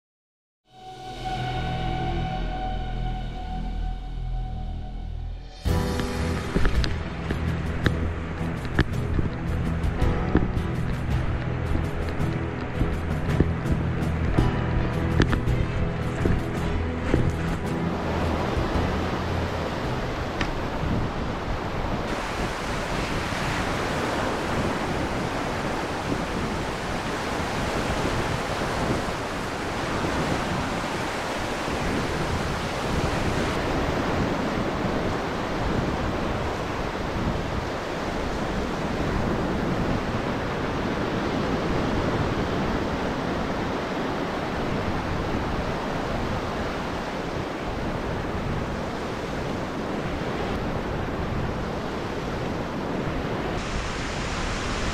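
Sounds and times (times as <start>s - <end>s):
ocean waves breaking on beach: 5.6s - 54.9s
wind buffeting microphone: 5.6s - 54.9s.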